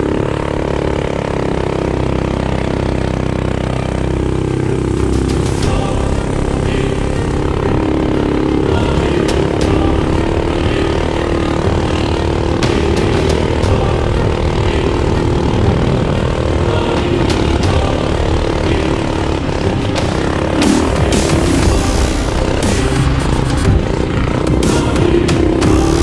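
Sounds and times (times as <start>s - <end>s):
mini bike engine buzzing: 0.0s - 26.0s.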